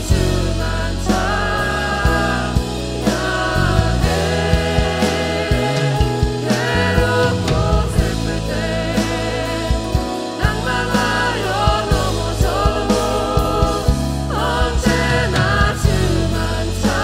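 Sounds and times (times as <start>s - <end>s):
band accompaniment: 0.0s - 17.0s.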